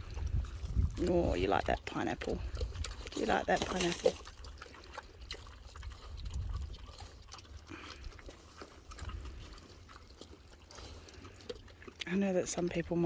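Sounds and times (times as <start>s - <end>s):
pig chewing fruit: 0.0s - 13.0s.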